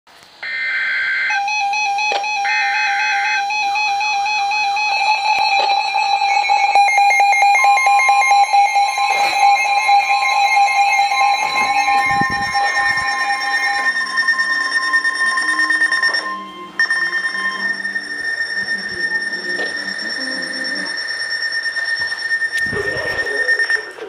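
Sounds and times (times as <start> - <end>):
electronic alert tones: 0.4 - 24.0
warbling data tone bursts: 1.3 - 24.0.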